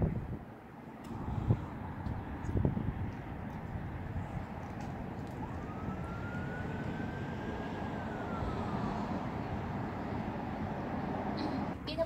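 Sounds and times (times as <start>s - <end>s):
wind on microphone: 0.0s - 0.5s, 1.1s - 11.8s
distant road traffic rumble: 0.0s - 12.0s.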